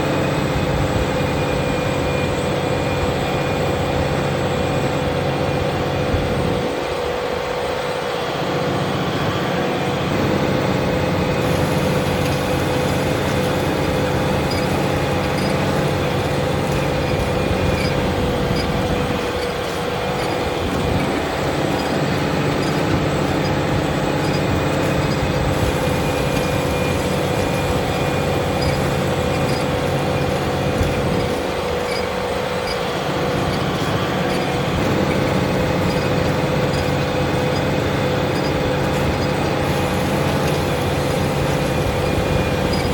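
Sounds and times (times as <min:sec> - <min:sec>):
steady whine: 0:00.0 - 0:42.9
tractor diesel engine running: 0:00.0 - 0:42.9.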